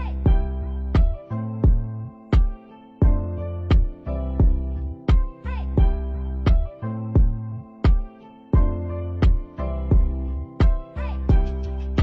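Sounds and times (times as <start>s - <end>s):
background music with drum beat: 0.3s - 11.6s.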